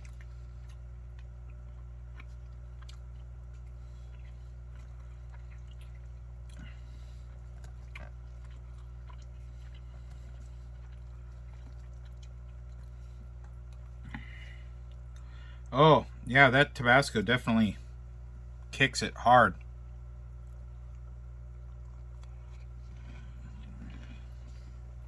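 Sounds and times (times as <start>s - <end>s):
person chewing food: 0.0s - 16.2s, 19.6s - 25.0s
steady low hum: 0.0s - 25.0s.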